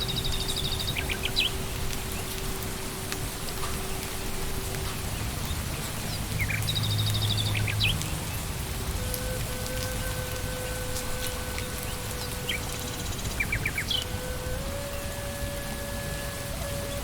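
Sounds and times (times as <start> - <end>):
rain falling in a forest: 0.0 - 17.0
raindrops tapping: 0.0 - 17.0.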